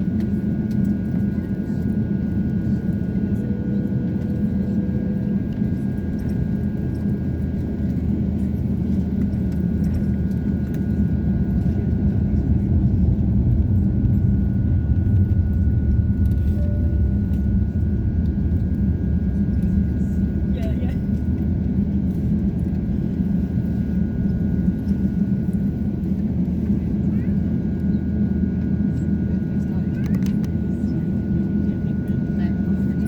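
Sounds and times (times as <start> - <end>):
airliner cabin rumble: 0.0 - 33.0.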